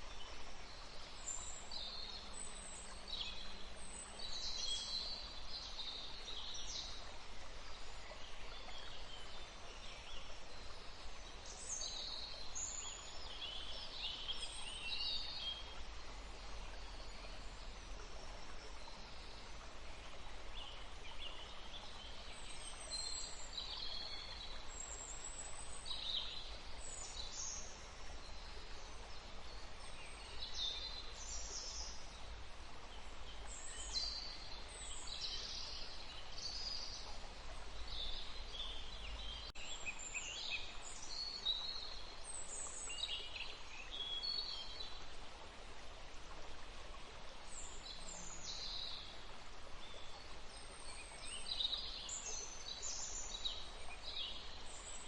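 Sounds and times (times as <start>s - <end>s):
forest stream rushing: 0.0s - 55.0s.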